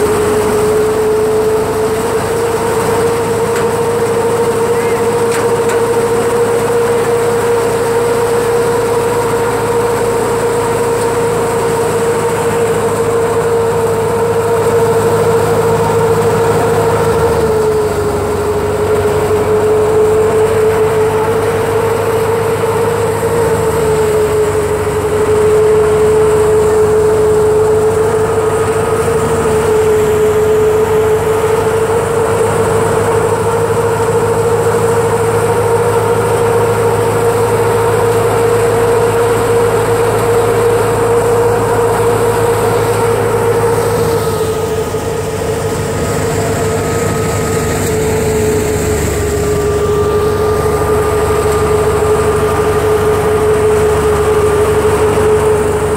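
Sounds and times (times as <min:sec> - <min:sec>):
wheat thresher running: 0:00.0 - 0:55.9.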